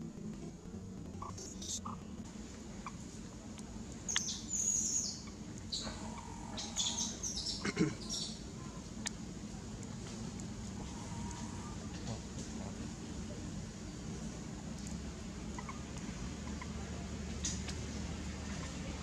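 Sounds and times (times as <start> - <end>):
birds chirping: 0.0 - 3.2, 3.9 - 19.0
faint low hum: 0.0 - 19.0.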